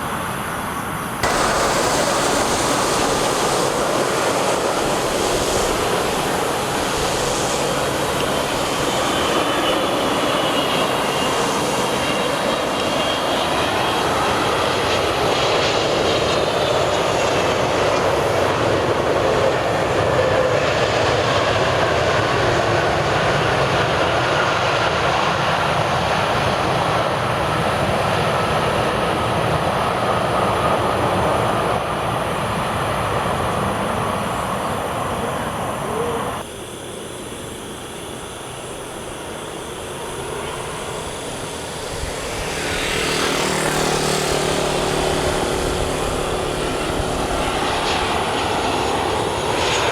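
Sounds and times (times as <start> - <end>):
jet engines of landing airliner: 0.0 - 49.9.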